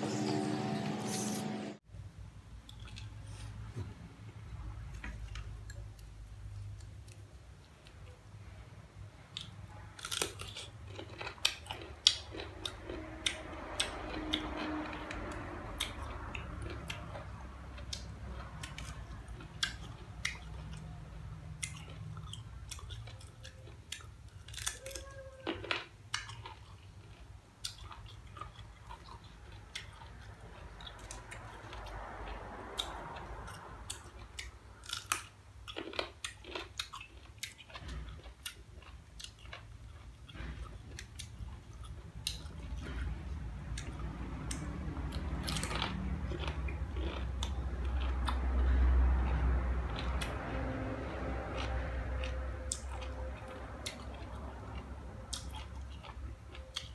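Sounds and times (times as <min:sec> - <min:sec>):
chewing: 0:09.3 - 0:56.9.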